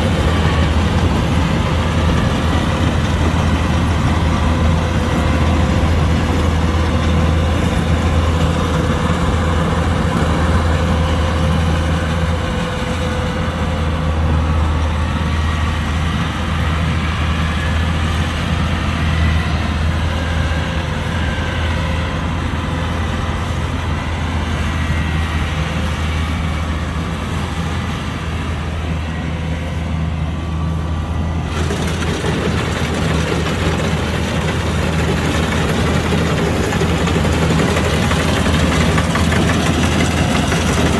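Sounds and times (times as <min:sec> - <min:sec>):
combine harvester engine hum: 0:00.0 - 0:40.9
machinery whine: 0:00.0 - 0:40.9.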